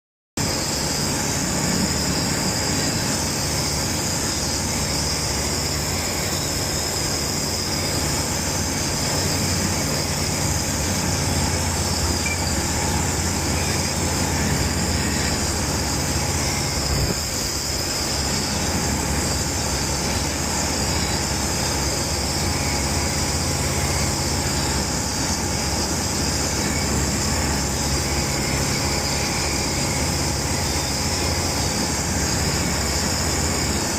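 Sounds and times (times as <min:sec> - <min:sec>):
light aircraft engine and propeller: 0:00.4 - 0:33.9.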